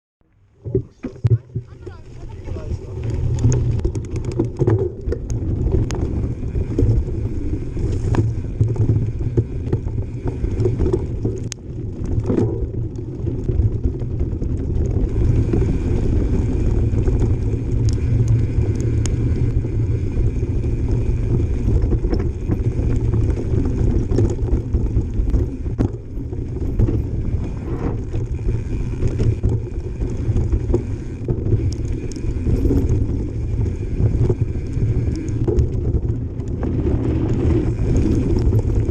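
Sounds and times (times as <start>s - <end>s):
freehub buzzing: 0.4s - 38.9s
bike tyres rumbling on dirt: 0.5s - 38.9s
bike knocks and rattles: 0.6s - 38.9s
wind on microphone: 0.6s - 38.9s.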